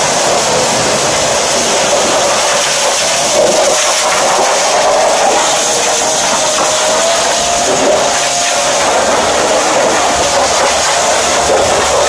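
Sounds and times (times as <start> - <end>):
pressure washer spray hissing: 0.0 - 12.0
thin steady whine: 0.0 - 12.0.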